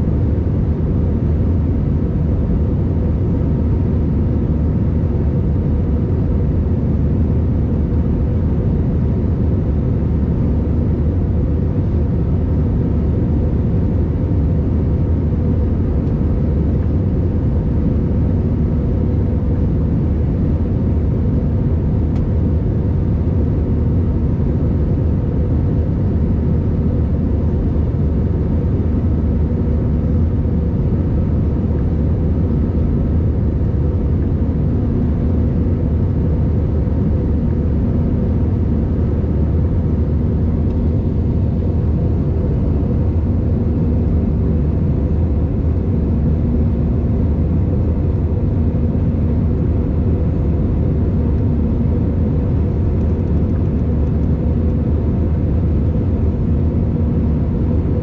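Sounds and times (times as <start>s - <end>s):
faint steady hum: 0.0s - 58.0s
jet engine and airflow noise: 0.0s - 58.0s.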